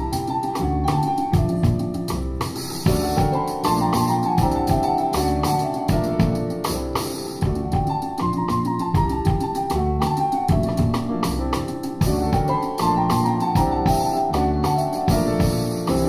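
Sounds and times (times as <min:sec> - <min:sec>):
drum kit cymbals: 0:00.0 - 0:16.0
grand piano melody: 0:00.0 - 0:16.0
plucked double bass: 0:00.0 - 0:16.0.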